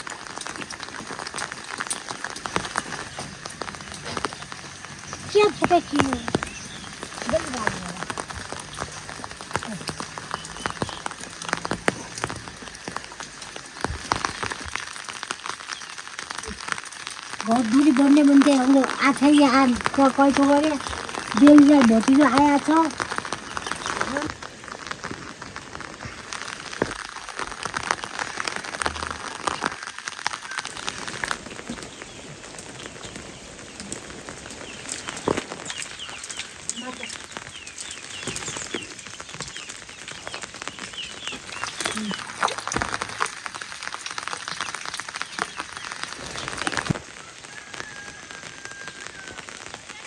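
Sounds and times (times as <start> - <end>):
heavy rain falling: 0.0 - 50.0
raindrops clicking close by: 0.0 - 50.0.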